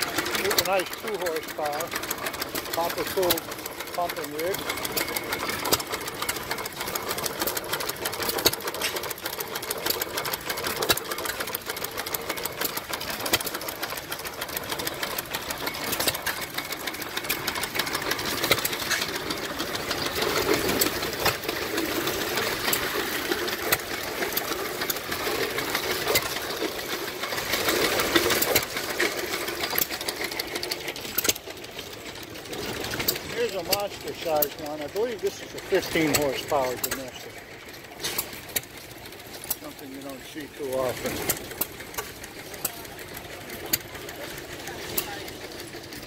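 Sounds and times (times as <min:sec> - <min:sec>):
stationary gas engine running: 0:00.0 - 0:46.0.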